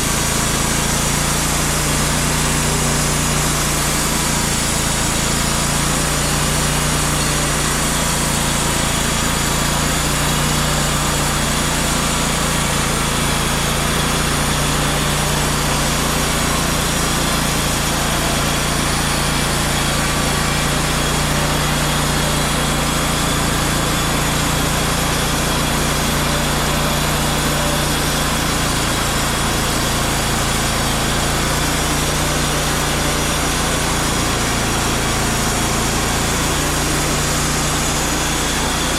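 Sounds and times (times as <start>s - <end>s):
saw blade cutting log: 0.0s - 38.9s
sawmill engine droning: 0.0s - 38.9s.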